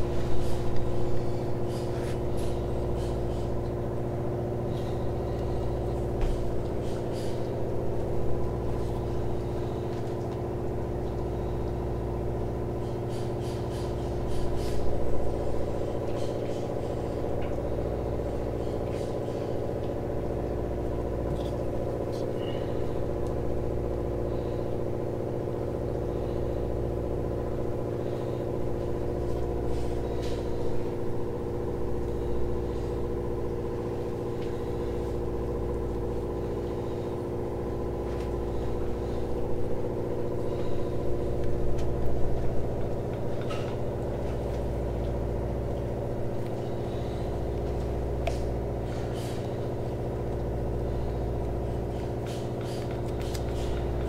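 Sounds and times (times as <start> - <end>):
machine droning: 0.0 - 54.0.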